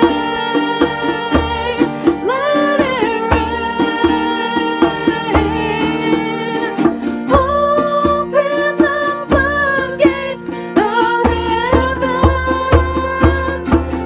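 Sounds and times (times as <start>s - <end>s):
person singing: 0.0s - 14.0s
plucked guitar: 0.0s - 14.0s.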